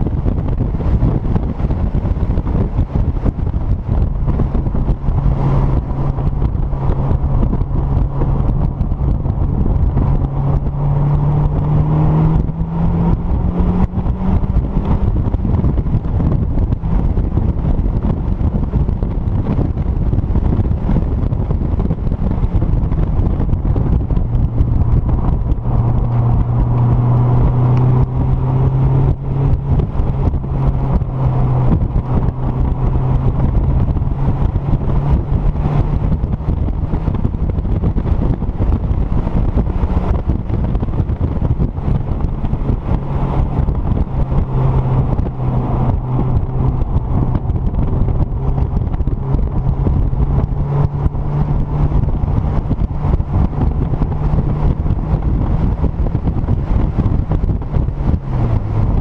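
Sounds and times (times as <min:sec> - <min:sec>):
car engine pulling hard: 0:00.0 - 0:59.0
rushing air: 0:00.0 - 0:59.0.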